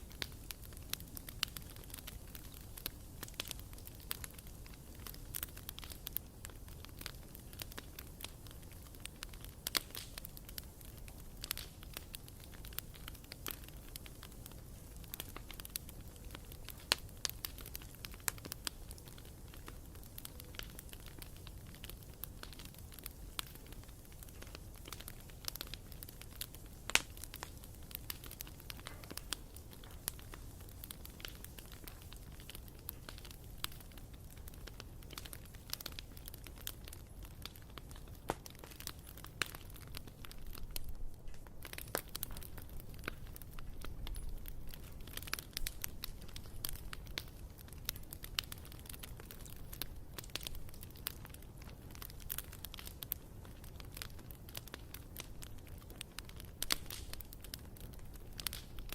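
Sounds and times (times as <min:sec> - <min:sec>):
bonfire wood crackling: 0:00.0 - 0:58.9.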